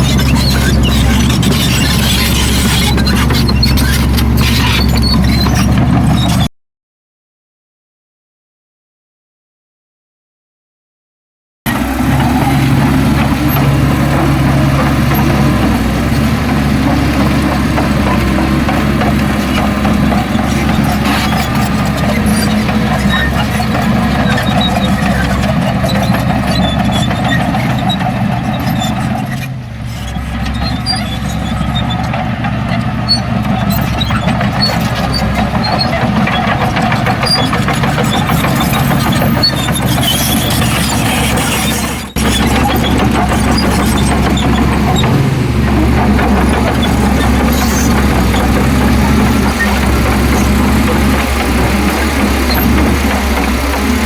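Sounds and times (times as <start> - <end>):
heavy diesel engine running: 0.0 - 6.5, 11.7 - 54.0.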